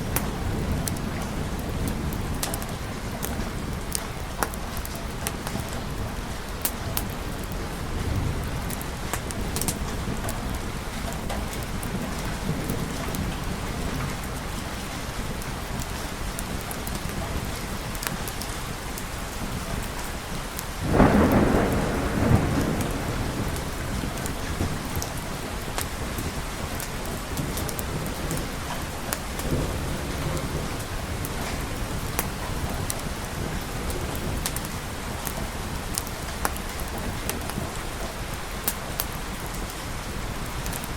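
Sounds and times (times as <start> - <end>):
thunderclap rumbling: 0.0 - 18.2, 20.7 - 40.9
steady rain falling: 0.0 - 40.9.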